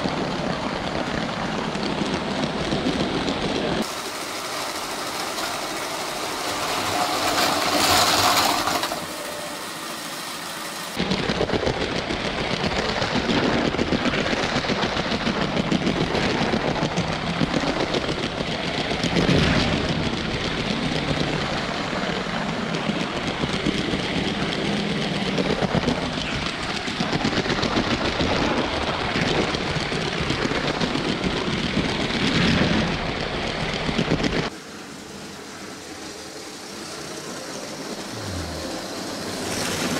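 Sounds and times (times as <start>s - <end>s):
toy train rattling on plastic track: 0.2s - 34.5s.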